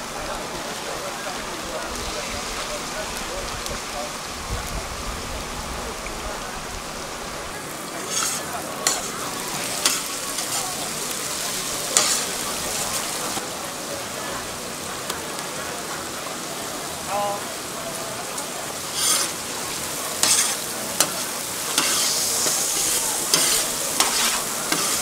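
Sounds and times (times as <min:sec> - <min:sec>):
meat and vegetables sizzling in oil: 0:00.0 - 0:25.0.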